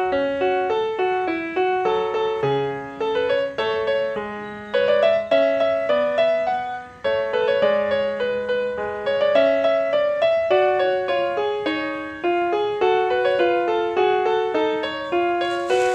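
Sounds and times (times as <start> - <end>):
piano-like keyboard melody: 0.0 - 15.9.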